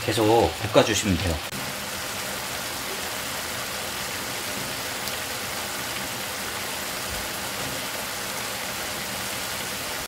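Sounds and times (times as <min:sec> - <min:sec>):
meat sizzling in frying pans: 0:00.0 - 0:10.0.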